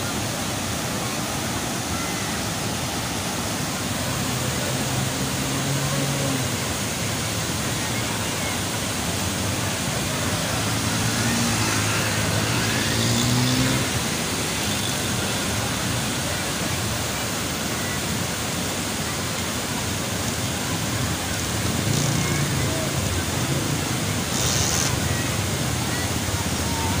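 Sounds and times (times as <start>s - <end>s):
floodwater rushing: 0.0s - 27.0s.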